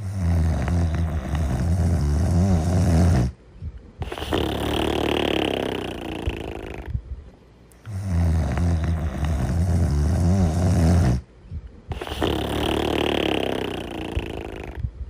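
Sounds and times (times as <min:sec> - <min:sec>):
breathy hissing breath: 0:00.0 - 0:03.4, 0:04.0 - 0:06.9, 0:07.8 - 0:11.2, 0:11.9 - 0:14.8
deep rattling snore: 0:00.0 - 0:03.4, 0:04.0 - 0:06.9, 0:07.8 - 0:11.3, 0:11.9 - 0:14.8.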